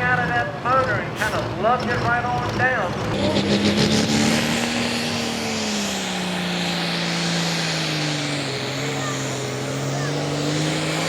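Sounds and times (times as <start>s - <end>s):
diesel tractor engine revving down: 0.0s - 11.0s.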